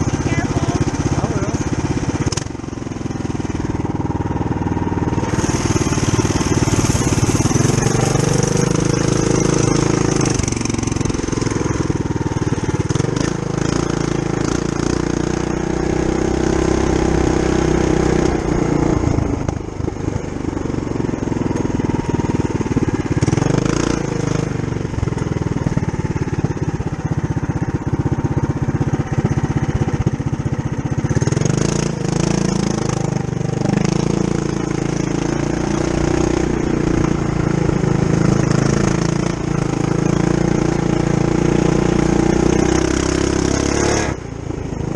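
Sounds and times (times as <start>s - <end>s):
small engine running under throttle: 0.0s - 44.9s.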